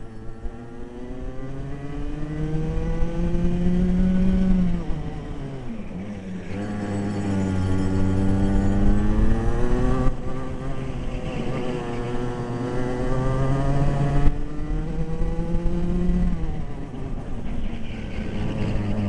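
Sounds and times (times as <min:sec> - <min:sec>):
go-kart engine revving: 0:00.0 - 0:19.0.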